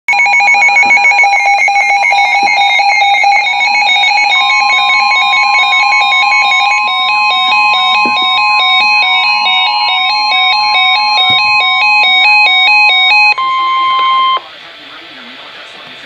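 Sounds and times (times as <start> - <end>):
high-pitched alarm tone: 0.1 - 14.5
pulsing electronic beeping: 0.1 - 14.5.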